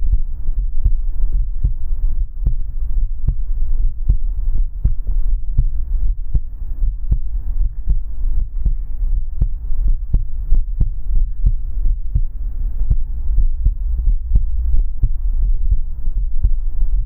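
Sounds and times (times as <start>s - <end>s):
heartbeat thumps: 0.0s - 17.0s
steady low hum: 0.0s - 17.0s.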